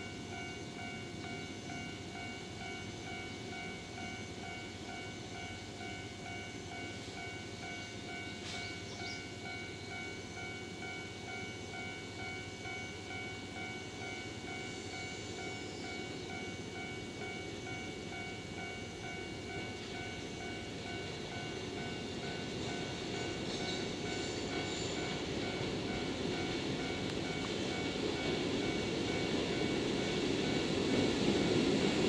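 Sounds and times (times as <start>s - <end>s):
level-crossing alarm ringing: 0.0s - 32.0s.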